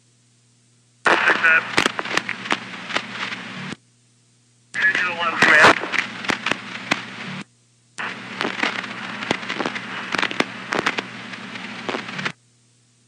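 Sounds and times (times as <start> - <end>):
steady low hum: 0.0 - 13.0
radio static hiss and crackle: 1.0 - 3.8, 4.7 - 12.4.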